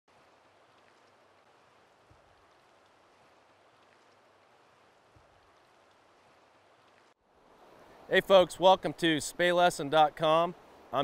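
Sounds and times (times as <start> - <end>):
faint river water rushing: 0.1 - 11.0.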